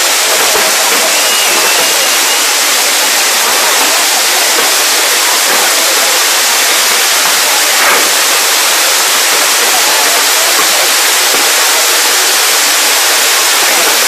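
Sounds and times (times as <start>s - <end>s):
fireworks fountains hissing: 0.0s - 14.0s.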